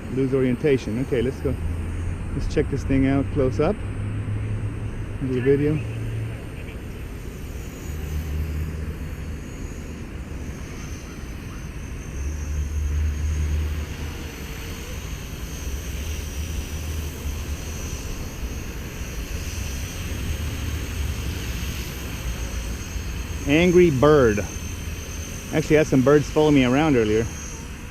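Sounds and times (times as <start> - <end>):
low rumble of rotor wash: 0.0 - 27.9
rc helicopter rotor whine: 0.0 - 27.9.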